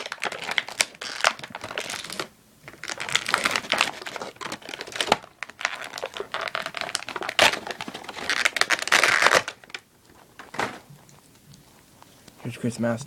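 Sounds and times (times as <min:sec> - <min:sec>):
packaging crinkling and rustling: 0:00.0 - 0:12.3.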